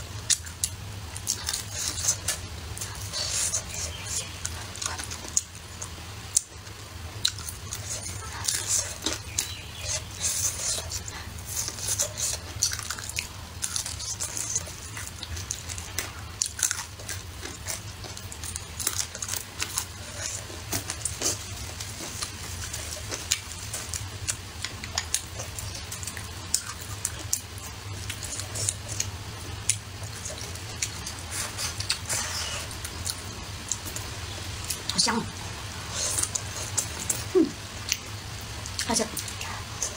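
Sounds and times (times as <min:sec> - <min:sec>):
steady low hum: 0:00.0 - 0:39.9
person biting and chewing food: 0:00.2 - 0:34.9
mouth clicks and smacks: 0:00.2 - 0:35.0.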